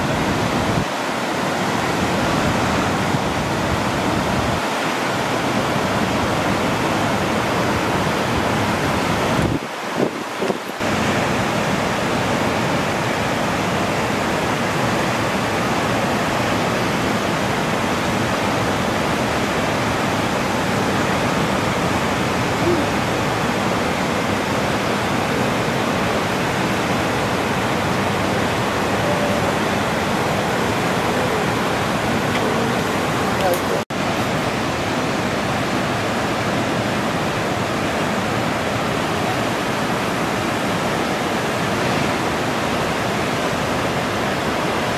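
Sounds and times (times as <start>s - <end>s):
ocean surf: 0.0s - 44.9s
wind: 0.0s - 44.9s.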